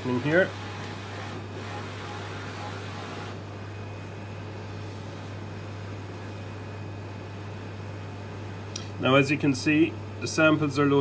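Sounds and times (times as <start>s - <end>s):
equipment humming: 0.0s - 11.0s.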